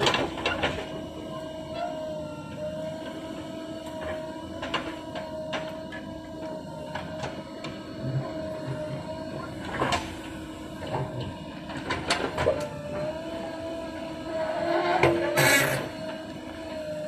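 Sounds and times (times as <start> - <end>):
backhoe engine whining under load: 0.0 - 17.0.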